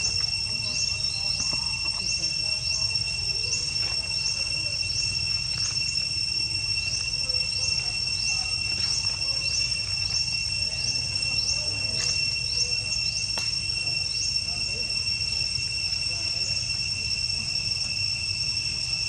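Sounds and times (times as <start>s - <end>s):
insects droning and chirping: 0.0s - 19.0s.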